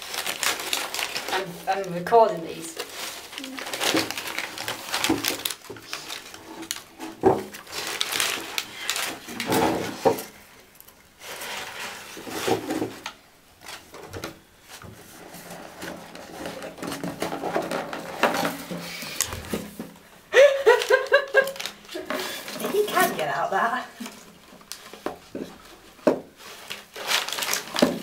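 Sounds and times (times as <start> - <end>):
paper and cardboard rustling: 0.0 - 20.1, 20.7 - 28.0.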